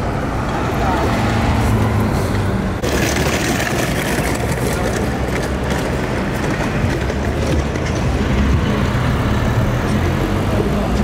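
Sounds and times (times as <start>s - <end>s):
minibus passing close: 0.0s - 11.0s
passing vehicles: 0.0s - 11.0s
tyre and road noise: 0.0s - 11.0s.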